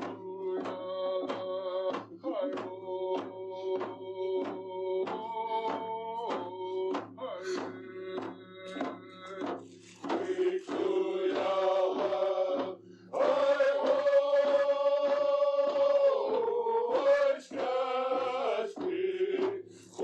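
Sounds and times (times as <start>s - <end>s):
man singing chant-like song: 0.0s - 20.0s.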